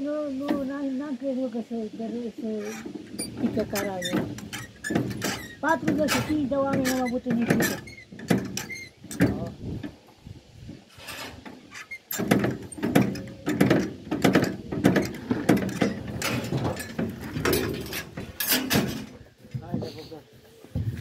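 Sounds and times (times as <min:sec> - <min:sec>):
ferry cable gear creaking and clanking: 0:02.4 - 0:19.9.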